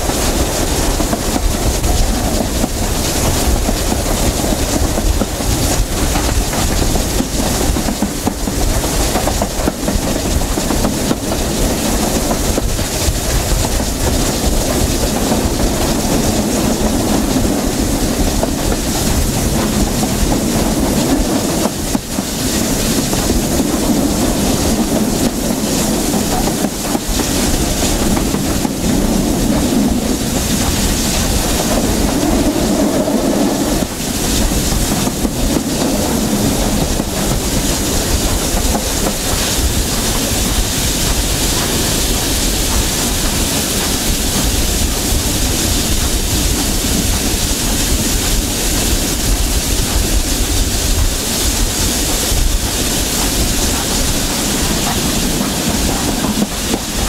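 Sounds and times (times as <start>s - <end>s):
carriage wheels rumbling: 0.0s - 57.0s
clickety-clack over rail joints: 0.0s - 57.0s.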